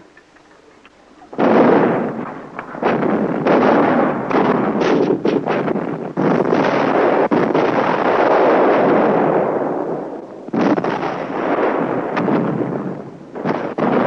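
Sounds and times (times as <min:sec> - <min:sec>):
gunfire and shell explosions: 0:00.0 - 0:14.0.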